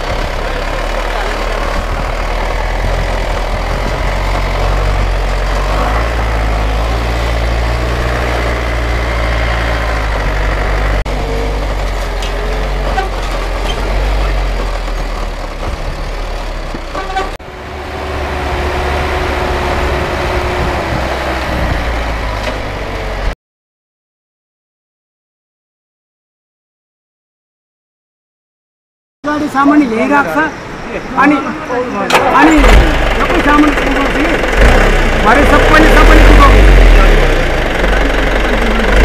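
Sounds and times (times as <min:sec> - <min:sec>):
truck engine droning: 0:00.0 - 0:23.4, 0:30.1 - 0:39.0.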